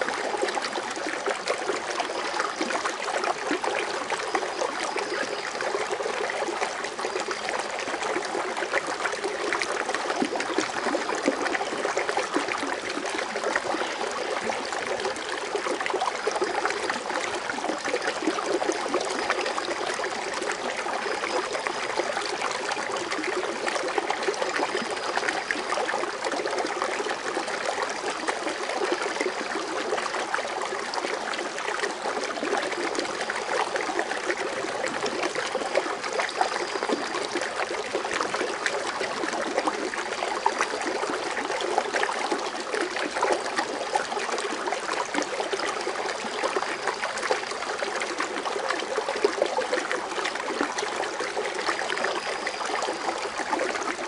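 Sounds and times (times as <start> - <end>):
fountain water splashing: 0.0 - 54.0.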